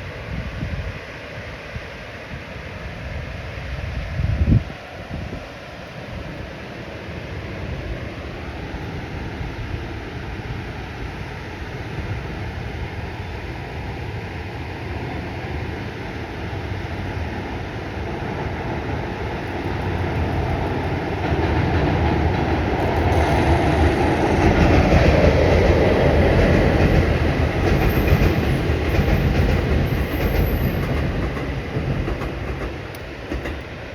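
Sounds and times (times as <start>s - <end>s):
train passing: 2.6s - 33.9s.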